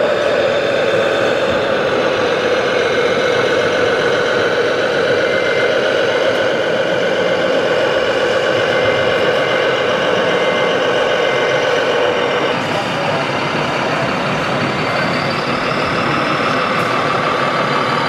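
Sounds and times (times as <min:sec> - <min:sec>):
simulated diesel truck engine: 0:00.0 - 0:18.0.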